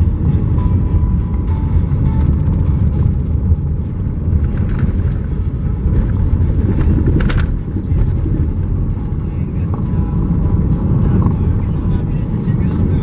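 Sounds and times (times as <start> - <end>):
car driving on gravel: 0.0 - 13.0.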